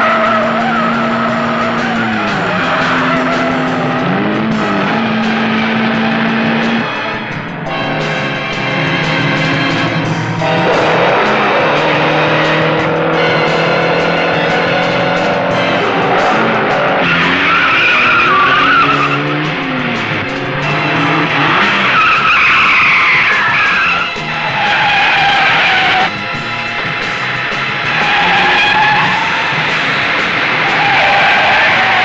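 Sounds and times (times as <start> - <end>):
car engines revving: 0.0 - 32.0
tyres squealing: 0.0 - 32.0.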